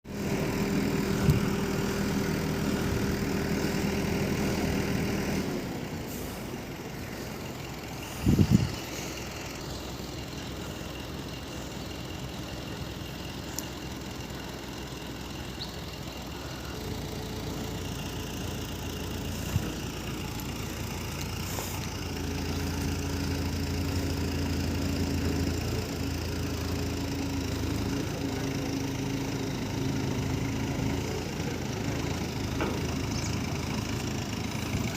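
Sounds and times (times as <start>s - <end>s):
heavy machine engine idling: 0.1s - 34.9s.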